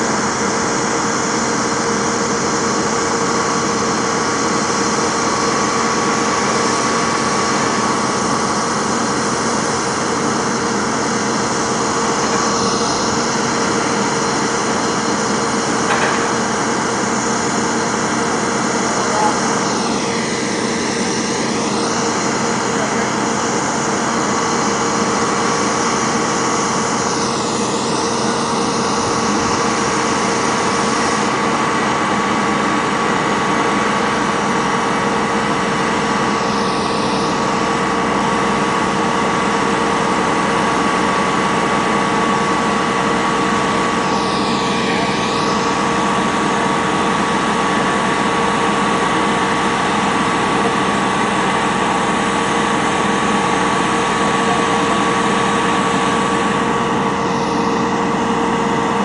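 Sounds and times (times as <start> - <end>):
hydraulic whine: 0.0 - 59.0
truck engine idling: 0.1 - 59.0.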